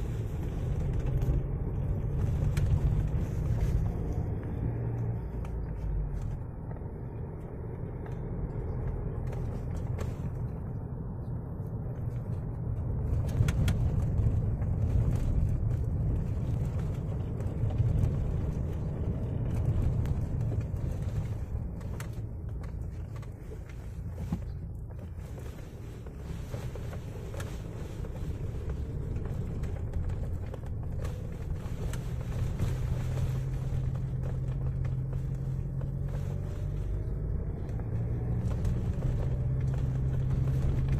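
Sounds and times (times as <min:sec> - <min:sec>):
engine and tyre rumble: 0:00.0 - 0:40.9.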